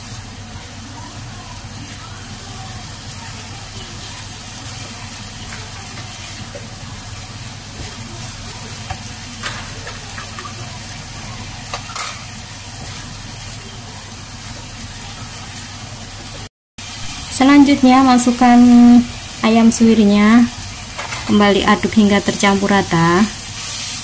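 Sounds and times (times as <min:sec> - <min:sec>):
spice paste sizzling in oil: 0:00.0 - 0:24.0.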